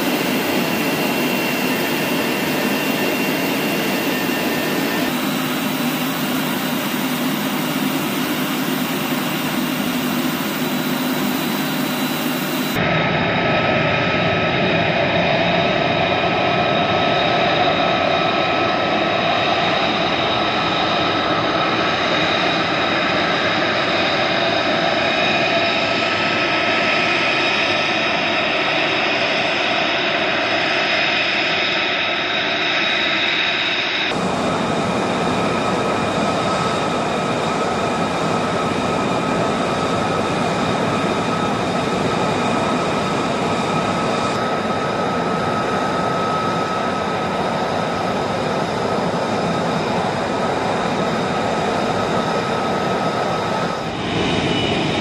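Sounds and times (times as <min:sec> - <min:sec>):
jet engine roaring and whining: 0:00.0 - 0:55.0.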